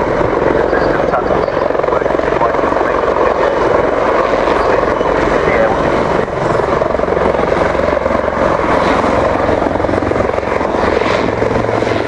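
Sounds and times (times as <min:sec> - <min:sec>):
helicopter rotors and turbine engines: 0:00.0 - 0:12.0.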